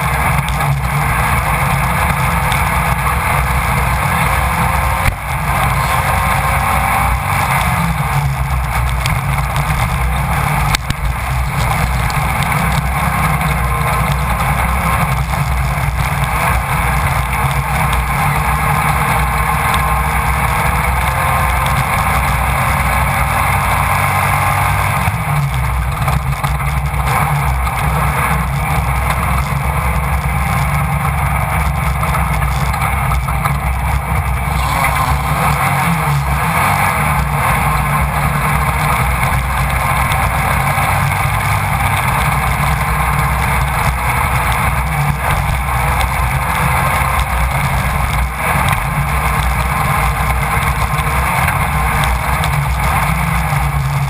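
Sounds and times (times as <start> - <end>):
race car engine at high revs: 0.0 - 54.0
wind and road noise: 0.0 - 54.0.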